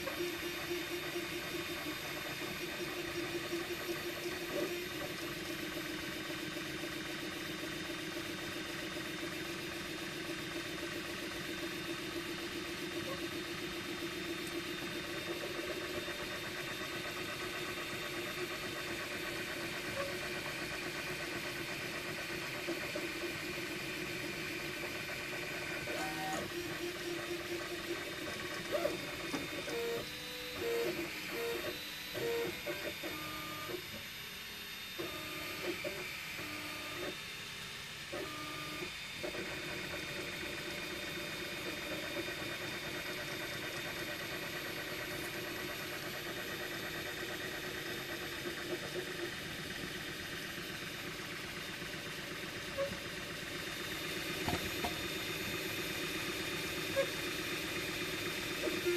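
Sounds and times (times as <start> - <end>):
printer fan and stepper motors: 0.0 - 58.9.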